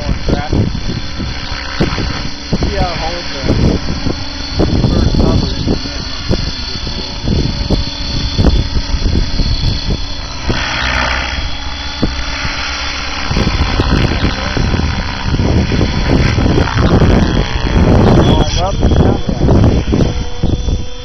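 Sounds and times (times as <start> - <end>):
electric motor high whine: 0.0 - 21.0
helicopter rotor blades whooshing: 0.0 - 21.0.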